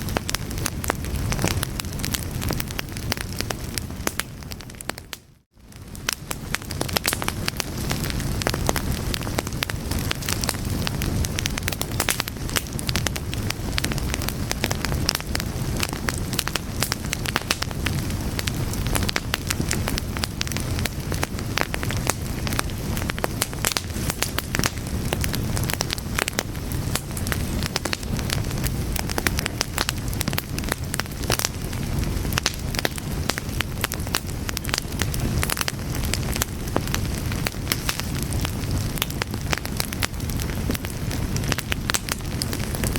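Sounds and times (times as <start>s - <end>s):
fire crackling and popping: 0.0s - 42.9s
low rumble of flame: 0.0s - 42.9s.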